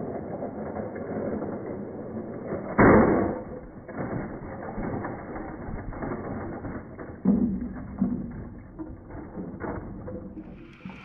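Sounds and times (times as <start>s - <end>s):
plastic train cars crashing: 0.0s - 11.0s.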